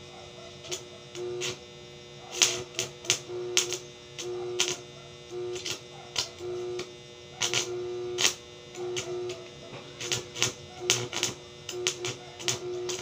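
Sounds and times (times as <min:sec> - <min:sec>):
welding arc crackling: 0:00.0 - 0:13.0
welding machine humming: 0:00.0 - 0:13.0.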